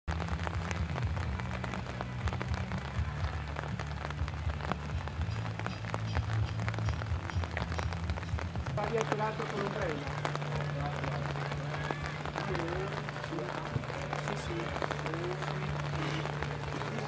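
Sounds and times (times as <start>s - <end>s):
low steady rain rumble: 0.0s - 17.0s
raindrops ticking: 0.0s - 17.0s.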